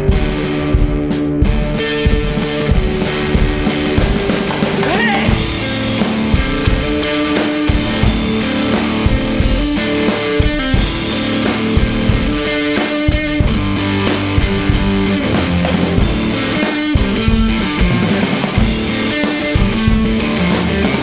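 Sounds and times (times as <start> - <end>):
drum kit steady beat: 0.0 - 21.0.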